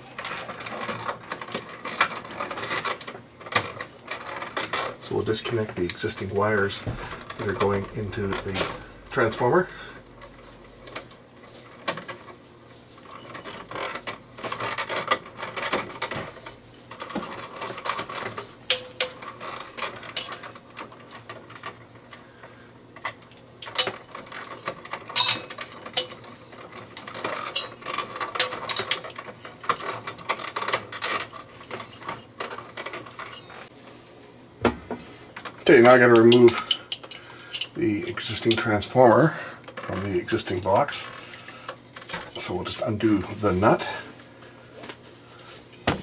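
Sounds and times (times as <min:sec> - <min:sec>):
wires and plastic box handled: 0:00.0 - 0:34.1, 0:35.3 - 0:46.0.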